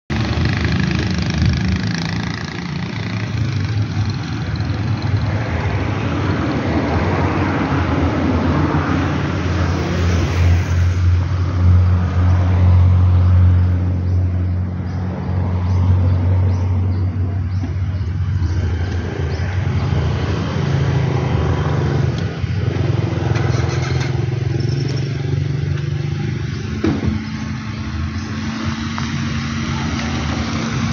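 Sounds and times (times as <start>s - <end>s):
vehicle engines running: 0.1s - 30.9s.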